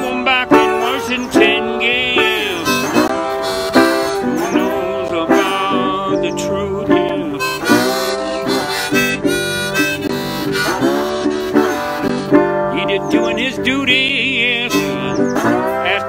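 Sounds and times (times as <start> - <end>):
harmonica with bending notes: 0.0 - 16.0
slide resonator guitar: 0.0 - 16.0.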